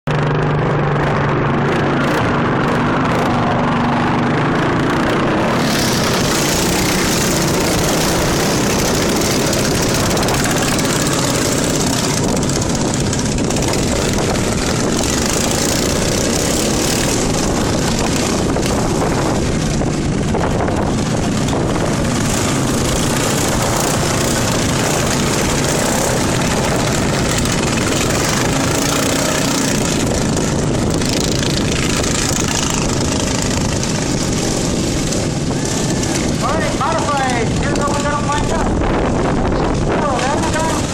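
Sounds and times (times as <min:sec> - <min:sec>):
lawn mower engine running: 0:00.1 - 0:40.9.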